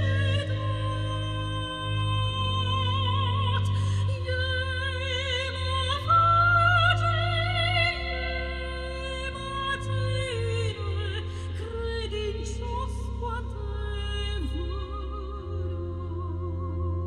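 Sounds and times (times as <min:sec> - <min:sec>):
operatic soprano singing: 0:00.0 - 0:17.0
organ chords: 0:00.0 - 0:17.0.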